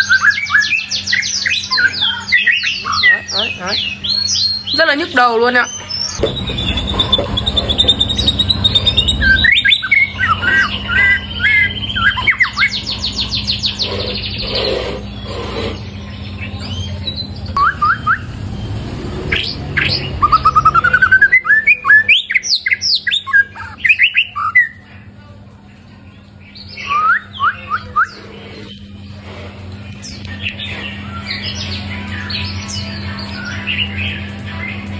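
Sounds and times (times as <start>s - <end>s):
songbird singing trills and whistles: 0.0s - 24.9s, 26.2s - 29.2s, 29.8s - 34.9s.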